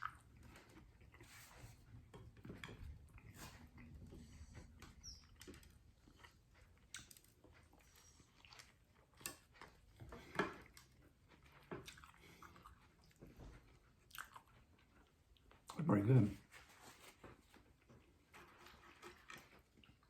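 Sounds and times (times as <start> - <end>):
person chewing food: 0.0 - 15.8, 17.2 - 20.0.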